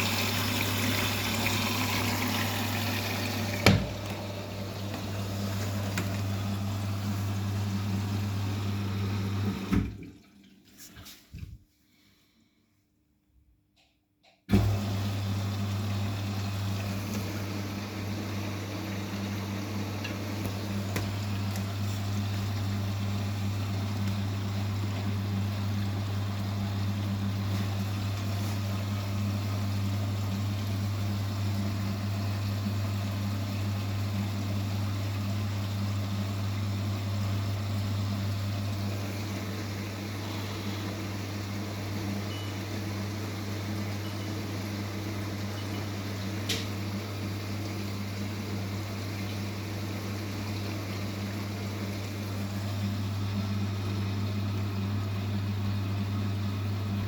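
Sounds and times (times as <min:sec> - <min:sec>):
water rushing into machine: 0:00.0 - 0:11.4, 0:14.5 - 0:57.0
washing machine humming: 0:00.0 - 0:11.6, 0:14.5 - 0:57.0.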